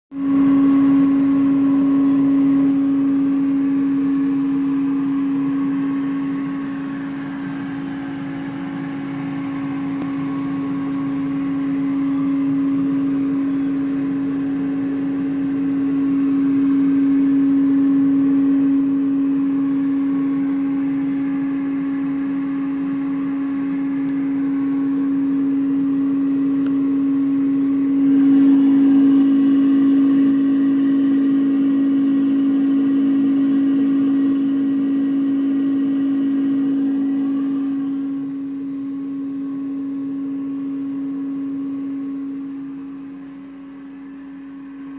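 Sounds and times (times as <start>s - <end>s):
laser engraver whirring hum: 0.1s - 44.9s.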